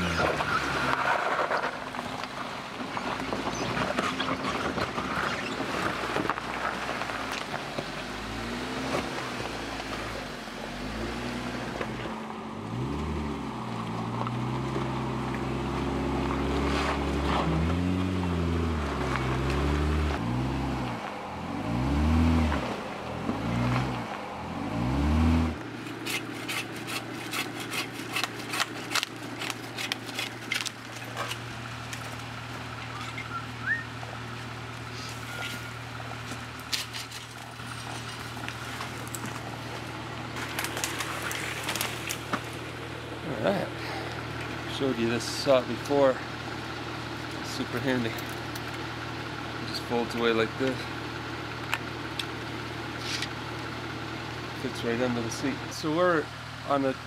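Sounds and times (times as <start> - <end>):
off-road engine revving: 0.0 - 57.0.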